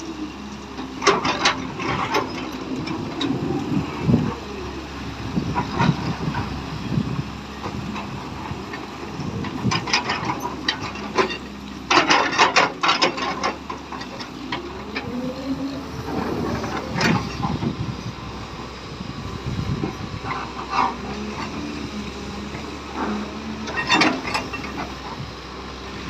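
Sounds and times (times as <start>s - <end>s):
excavator diesel engine humming: 0.0s - 26.0s.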